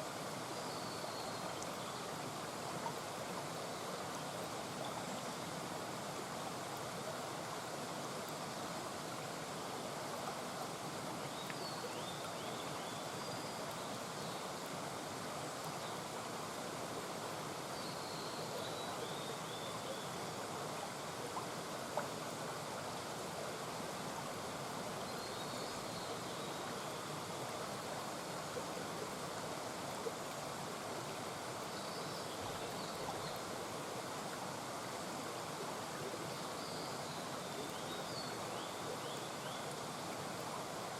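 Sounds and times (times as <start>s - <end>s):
water running over stones: 0.0s - 40.9s.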